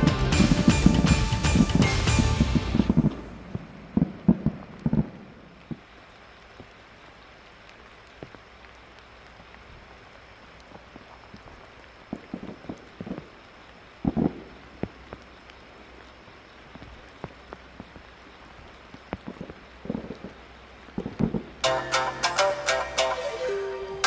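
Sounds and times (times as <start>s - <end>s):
rain falling: 0.0s - 24.0s
raindrop taps: 0.4s - 21.6s.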